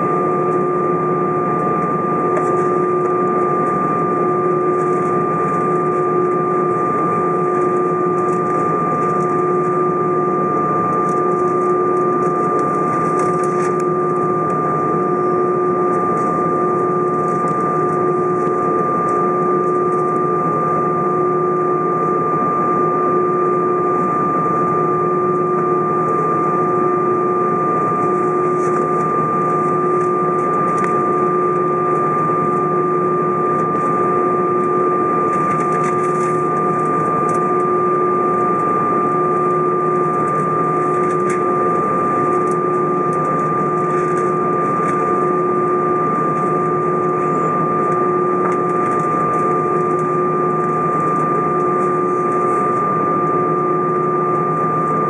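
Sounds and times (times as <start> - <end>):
jet engines idling: 0.0 - 20.9, 23.8 - 53.3.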